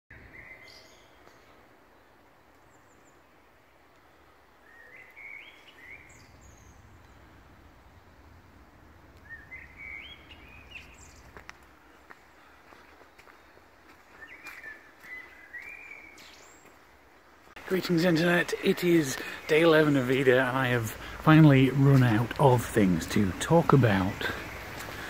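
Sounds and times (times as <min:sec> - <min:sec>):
songbird singing: 0:00.1 - 0:25.0
outdoor hiss and rumble: 0:00.2 - 0:14.0, 0:15.3 - 0:25.0.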